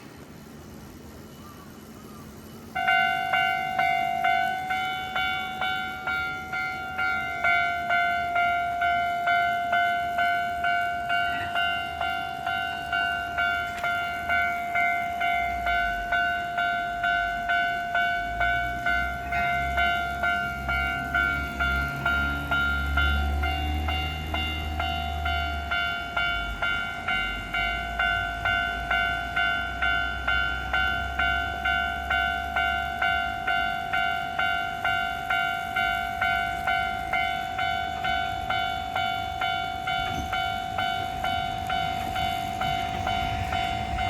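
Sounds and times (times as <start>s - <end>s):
level-crossing warning bell: 0.0s - 44.0s.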